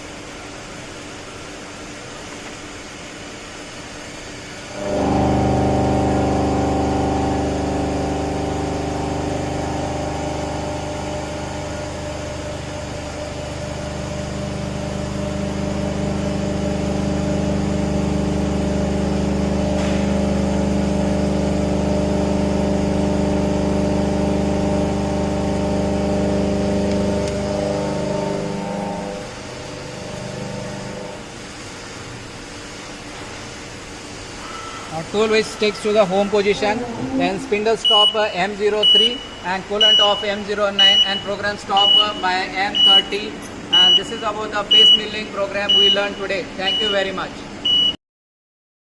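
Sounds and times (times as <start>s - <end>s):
milling machine spindle hum: 3.6s - 31.9s, 34.2s - 47.8s.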